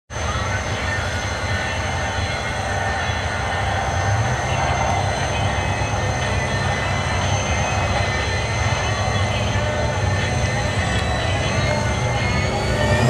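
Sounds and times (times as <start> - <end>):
car engines idling: 0.1 - 13.0.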